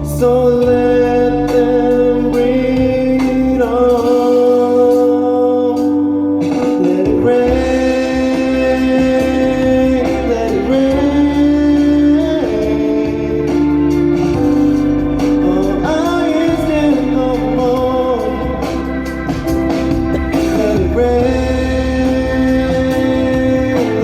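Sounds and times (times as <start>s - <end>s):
bass line: 0.0s - 24.0s
organ-like keyboard chords: 0.0s - 24.0s
person singing a slow ballad: 0.0s - 24.0s.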